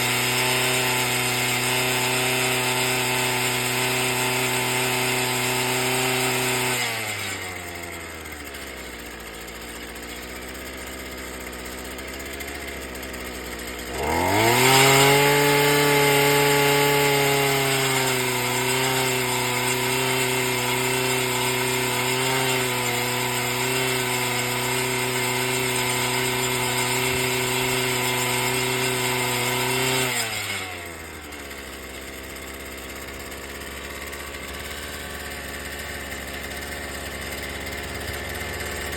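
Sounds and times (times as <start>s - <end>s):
tiller engine idling and revving: 0.0s - 38.9s.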